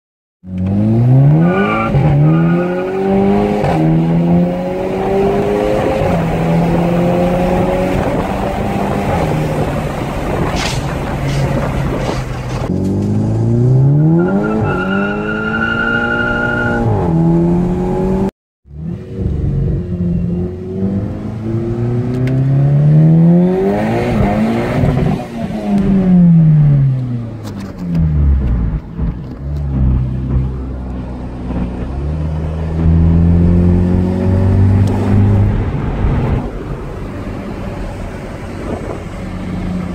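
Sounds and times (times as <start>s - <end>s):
car engine accelerating: 0.5s - 39.9s.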